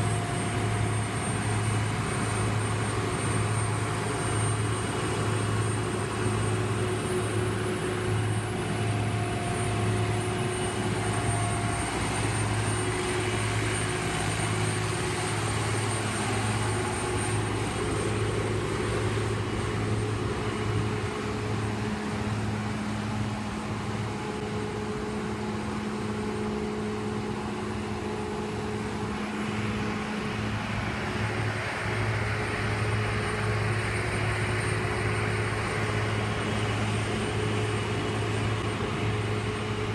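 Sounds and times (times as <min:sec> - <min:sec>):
road-repair machinery engine drone: 0:00.0 - 0:39.9.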